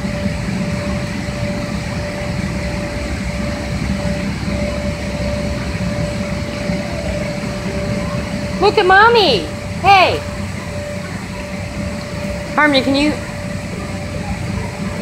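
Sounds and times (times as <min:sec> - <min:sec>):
air blower hum: 0:00.0 - 0:15.0
machinery droning: 0:00.0 - 0:15.0.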